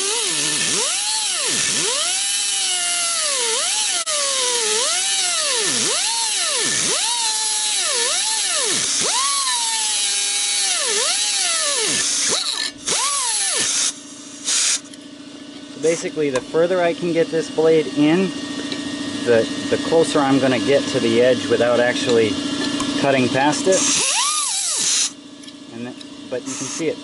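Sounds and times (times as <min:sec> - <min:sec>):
pneumatic cutoff tool whining: 0:00.0 - 0:15.0, 0:17.7 - 0:25.5, 0:26.4 - 0:27.0.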